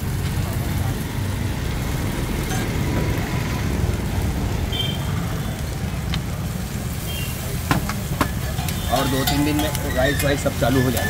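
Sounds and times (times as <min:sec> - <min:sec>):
noodles sizzling on a griddle: 0:00.0 - 0:11.0.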